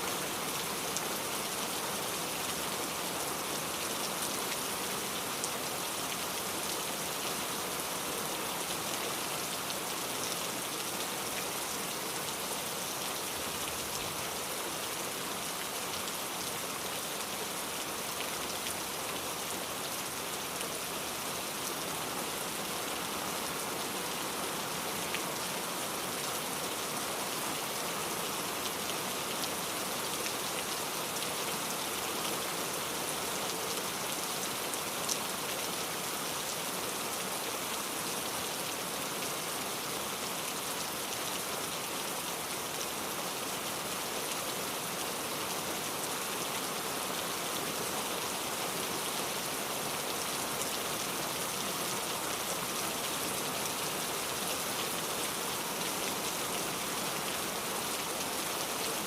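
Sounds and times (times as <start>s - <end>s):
rain pattering on a surface: 0.1s - 59.0s.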